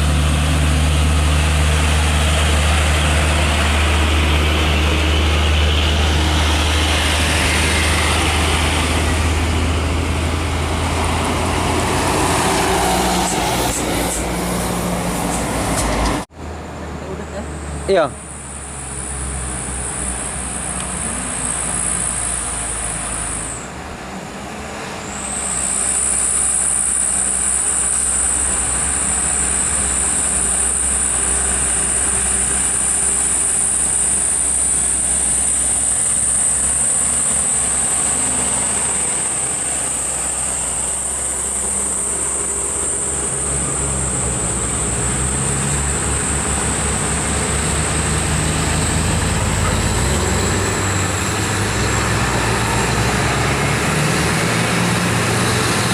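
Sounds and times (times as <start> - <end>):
high-pitched whine: 0.0 - 55.9
truck diesel engine labouring: 0.0 - 55.9.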